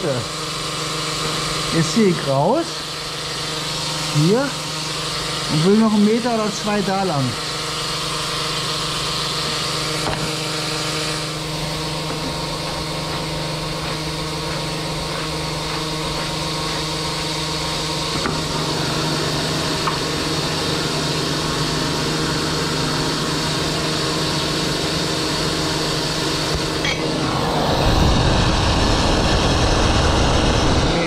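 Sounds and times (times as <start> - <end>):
engine and pump hum: 0.0 - 31.0
water jet hissing through pipe: 0.0 - 31.0.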